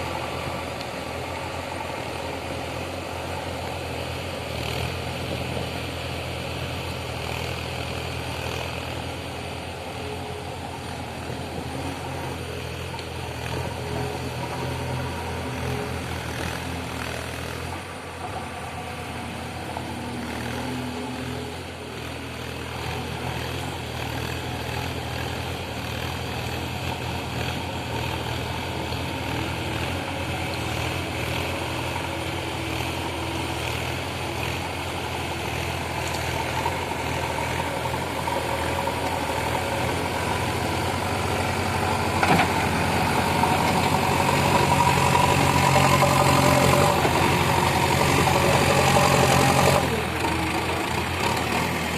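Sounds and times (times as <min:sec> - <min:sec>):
digger diesel engine running: 0:00.0 - 0:51.9.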